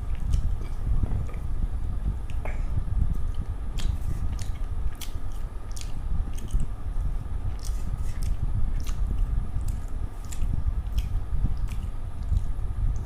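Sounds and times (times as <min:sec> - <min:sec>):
person chewing food: 0:00.0 - 0:01.5, 0:03.1 - 0:06.7, 0:07.5 - 0:13.0.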